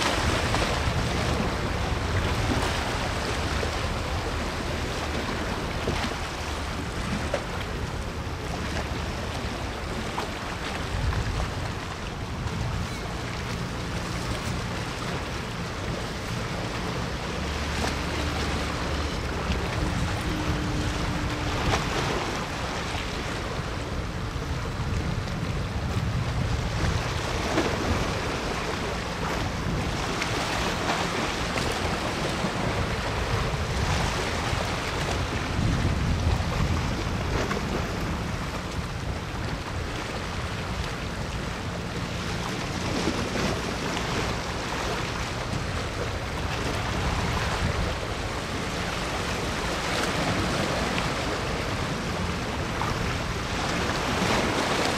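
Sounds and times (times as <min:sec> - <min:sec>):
water against shore: 0:00.0 - 0:54.9
wind on microphone: 0:00.0 - 0:54.9.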